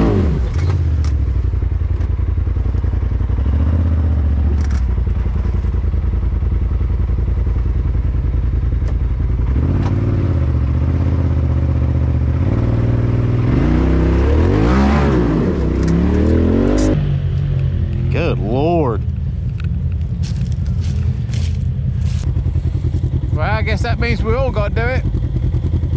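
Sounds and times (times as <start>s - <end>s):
off-road vehicle engine running: 0.0s - 25.9s.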